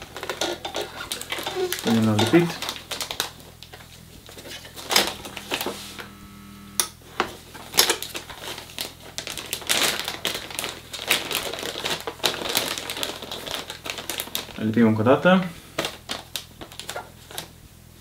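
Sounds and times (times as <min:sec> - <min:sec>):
plastic bag crinkling: 0:00.0 - 0:06.1, 0:07.0 - 0:17.6
heat sealer humming: 0:00.0 - 0:18.0.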